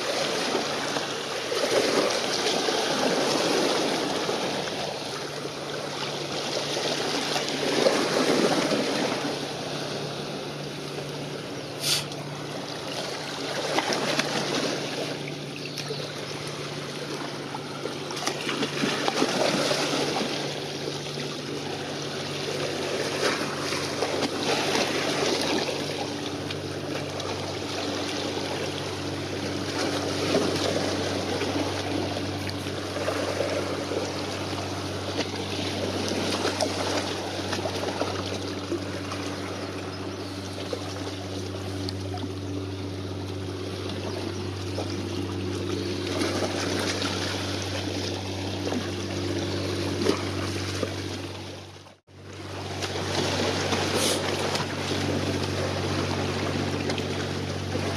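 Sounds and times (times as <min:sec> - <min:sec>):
low mechanical hum: 0:00.0 - 0:57.9
small waves lapping: 0:00.0 - 0:57.9.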